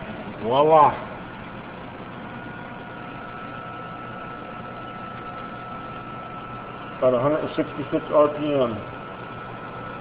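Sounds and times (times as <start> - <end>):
lathe humming with whine: 0.0 - 10.0.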